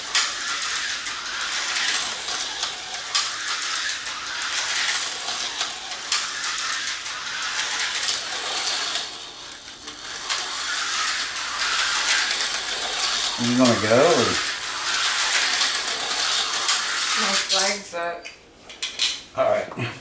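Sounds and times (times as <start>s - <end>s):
slot cars rattling: 0.0s - 18.1s
small electric motors whirring: 0.0s - 18.2s.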